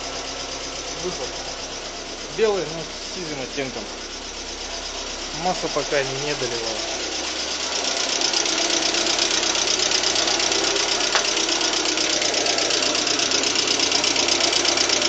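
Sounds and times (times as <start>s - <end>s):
car engine knocking: 0.0s - 15.0s.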